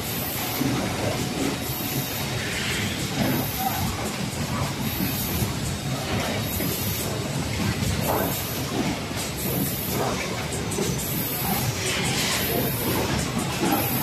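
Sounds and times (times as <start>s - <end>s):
machine mechanical clatter: 0.0s - 14.0s.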